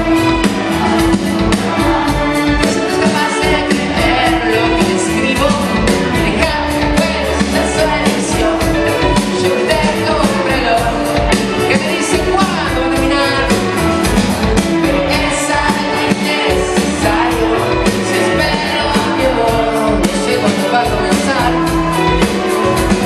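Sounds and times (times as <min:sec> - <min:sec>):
amplified instruments: 0:00.0 - 0:23.0
drum beat: 0:00.0 - 0:23.0
person singing: 0:00.0 - 0:23.0.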